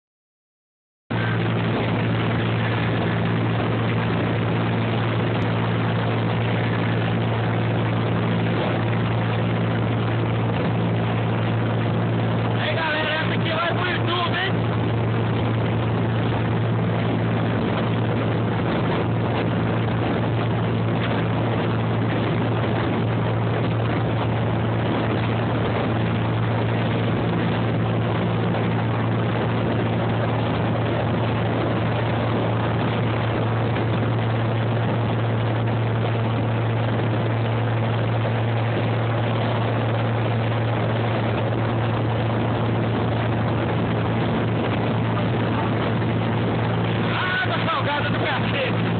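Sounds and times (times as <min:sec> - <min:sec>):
motorboat engine humming: 0:01.1 - 0:48.9
rushing noise: 0:01.1 - 0:48.9.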